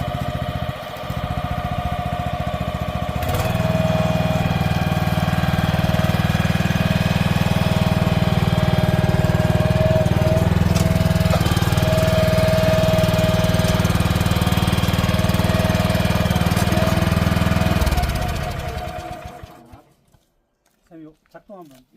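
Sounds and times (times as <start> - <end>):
small engine throbbing and whining: 0.0 - 19.8.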